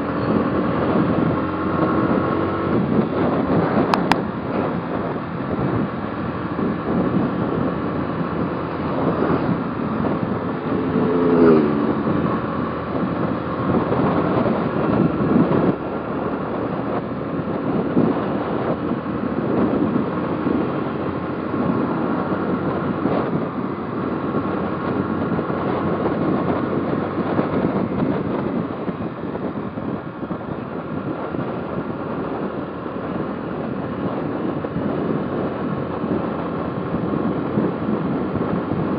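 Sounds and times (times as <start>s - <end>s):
motorcycle engine running: 0.0s - 38.9s
road noise: 0.0s - 38.9s
wind buffeting microphone: 0.0s - 38.9s.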